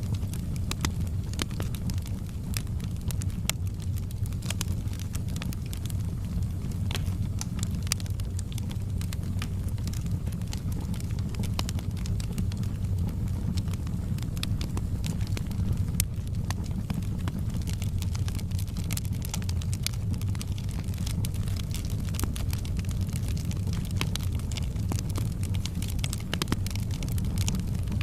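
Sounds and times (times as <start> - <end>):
fire crackling and popping: 0.0 - 28.0
fire rumbling: 0.0 - 28.0.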